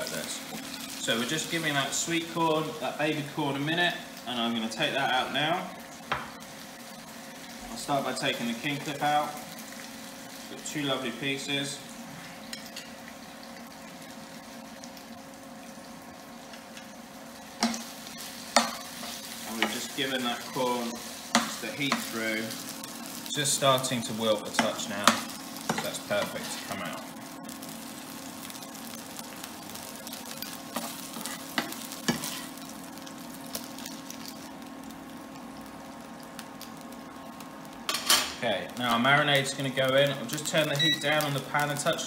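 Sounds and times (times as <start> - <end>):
baby corn sizzling in a frying pan: 0.0 - 42.0.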